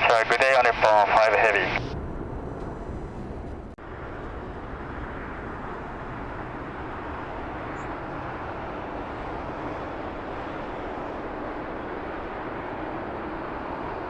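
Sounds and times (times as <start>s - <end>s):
distant jet engines rumbling: 0.0s - 14.0s.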